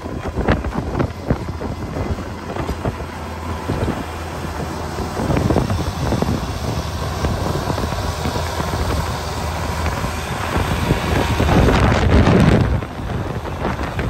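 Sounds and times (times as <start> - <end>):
tractor engine running: 0.0 - 14.0
wind buffeting microphone: 0.0 - 14.0.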